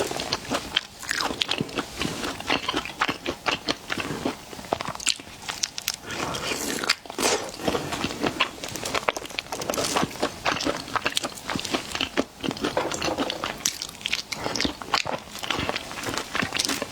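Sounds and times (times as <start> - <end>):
crunchy chewing of seafood: 0.0 - 16.9.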